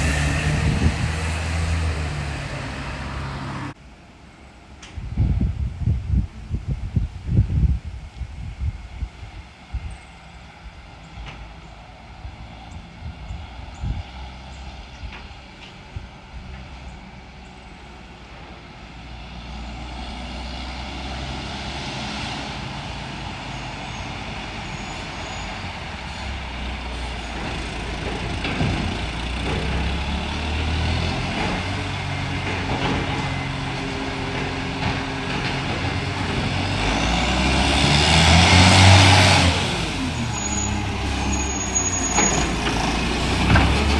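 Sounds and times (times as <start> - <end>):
garbage truck diesel engine: 0.0 - 4.1, 10.3 - 43.9.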